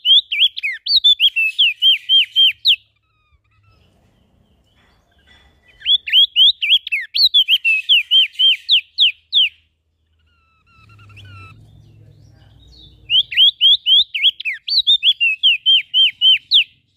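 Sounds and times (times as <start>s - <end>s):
songbird whistling: 0.0s - 4.0s, 5.6s - 11.8s, 12.6s - 16.8s.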